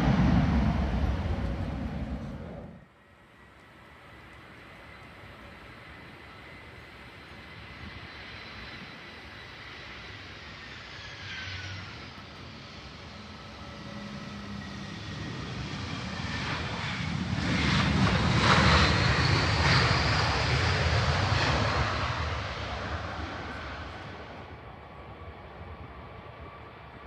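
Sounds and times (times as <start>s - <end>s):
high engine whine: 0.0s - 27.0s
jet airliner engine roar: 0.0s - 27.0s.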